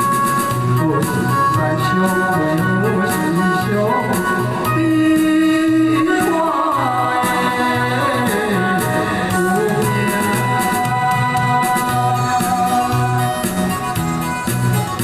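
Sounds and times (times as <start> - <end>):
electronic keyboard backing track: 0.0 - 15.0
repeating bass line: 0.0 - 15.0
man singing a ballad: 0.8 - 12.9.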